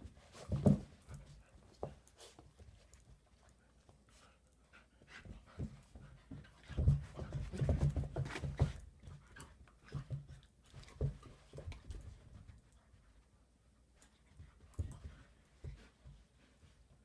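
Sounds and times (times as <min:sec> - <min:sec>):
dogs play-fighting noises: 0:00.0 - 0:17.0.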